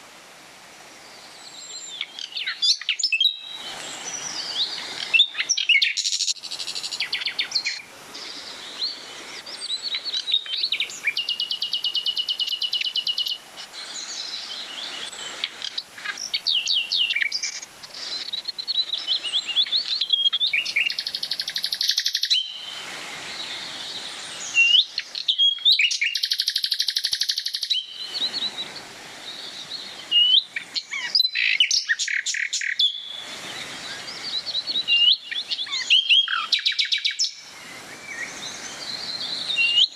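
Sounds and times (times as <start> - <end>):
songbirds chirping and trilling: 0.8 - 39.9.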